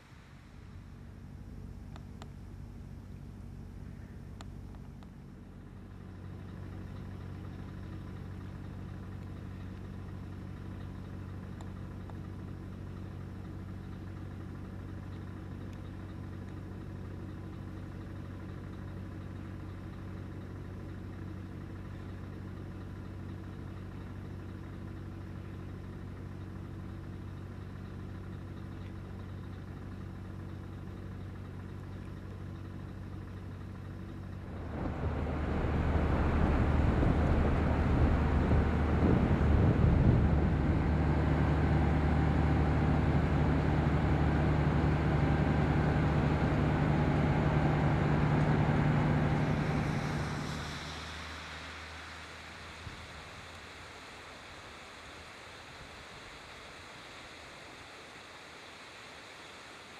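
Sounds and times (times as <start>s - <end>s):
engine droning: 0.0s - 58.9s.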